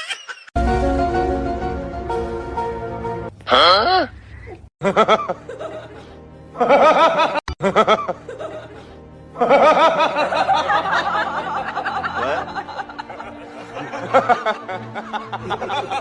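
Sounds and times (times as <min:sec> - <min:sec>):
music: 0:00.6 - 0:03.4, 0:04.9 - 0:16.0.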